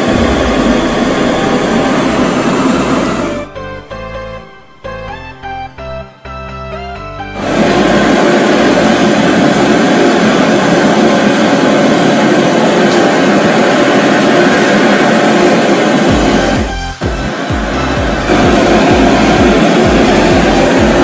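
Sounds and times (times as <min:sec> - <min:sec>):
propane torches hissing: 0:00.0 - 0:05.0, 0:07.4 - 0:21.0
music: 0:00.0 - 0:10.7, 0:14.4 - 0:21.0.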